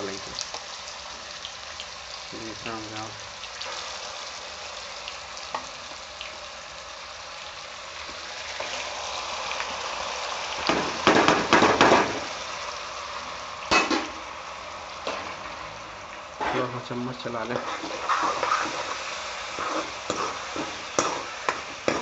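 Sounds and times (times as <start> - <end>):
paste sizzling in hot oil: 0.0 - 22.0.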